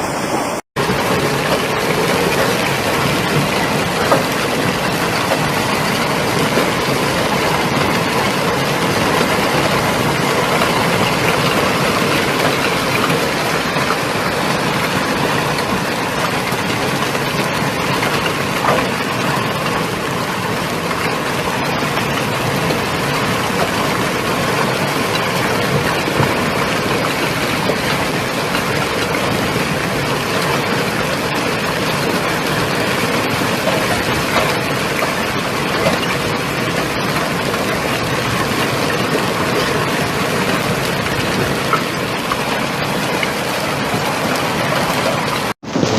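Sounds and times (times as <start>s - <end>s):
hailstones pelting down: 0.8s - 45.9s.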